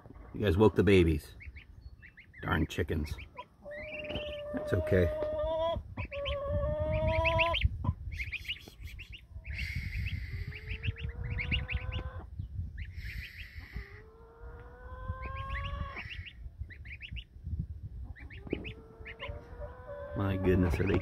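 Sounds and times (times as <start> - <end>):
goslings and ducklings peeping: 0.0 - 21.0
hen calling: 0.4 - 17.3, 18.0 - 21.0.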